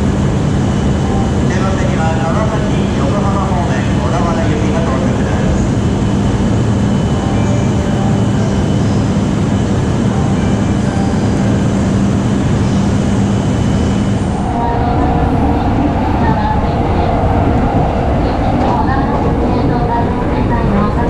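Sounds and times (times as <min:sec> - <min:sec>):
constant low hum: 0:00.0 - 0:21.0
train interior rumble: 0:00.0 - 0:21.0.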